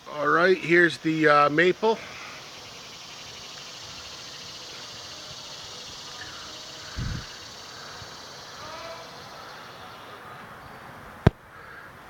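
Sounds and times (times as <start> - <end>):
insects trilling: 0.0 - 10.4.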